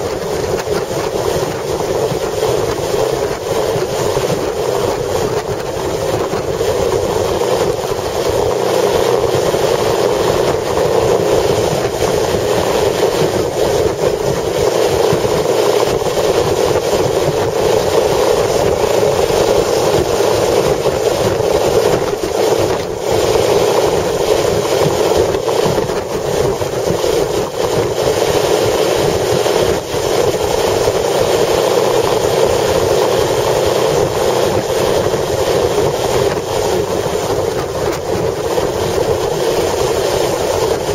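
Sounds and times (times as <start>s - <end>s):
strong wind rushing: 0.0s - 40.9s.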